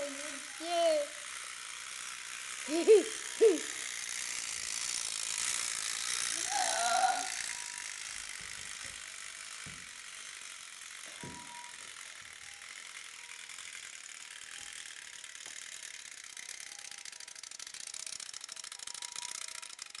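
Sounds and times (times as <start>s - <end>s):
clockwork toy motor whirring: 0.0s - 20.0s.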